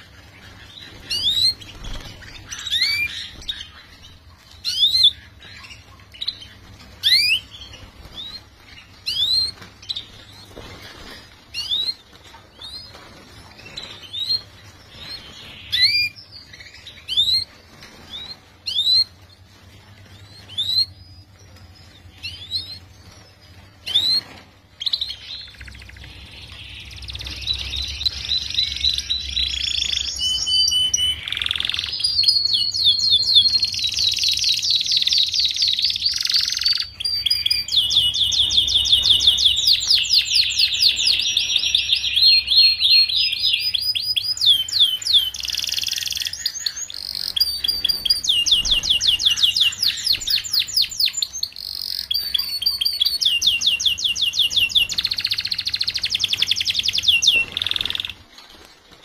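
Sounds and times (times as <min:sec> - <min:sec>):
canary singing trills: 0:00.0 - 0:58.4.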